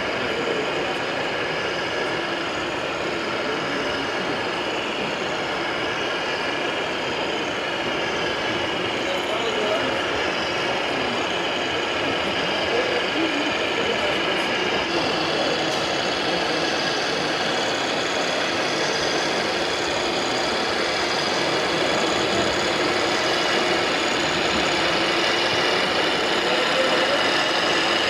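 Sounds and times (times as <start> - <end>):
model trucks running: 0.0 - 28.0.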